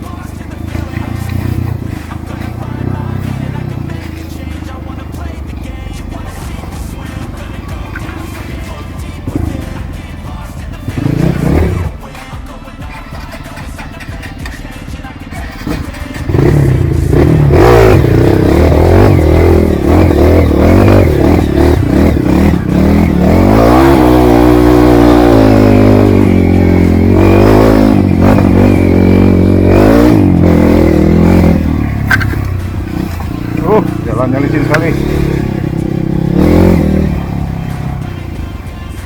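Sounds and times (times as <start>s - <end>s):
dirt bike engine revving: 0.0s - 12.0s, 15.3s - 39.0s.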